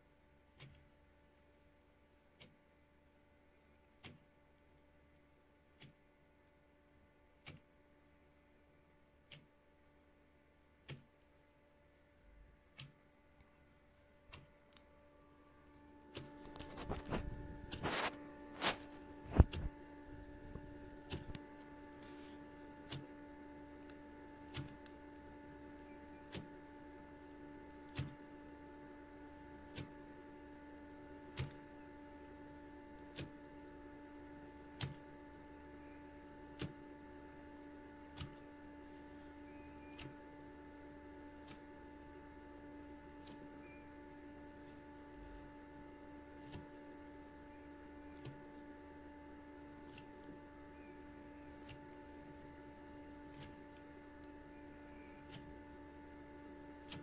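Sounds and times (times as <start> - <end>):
washing machine motor hum: 9.2 - 57.0.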